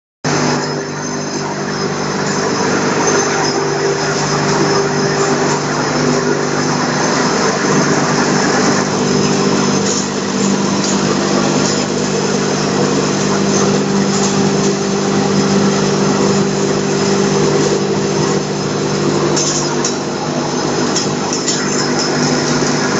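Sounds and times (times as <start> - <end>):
blower rushing noise: 0.3 - 22.9
machine hum with held tones: 0.3 - 22.9.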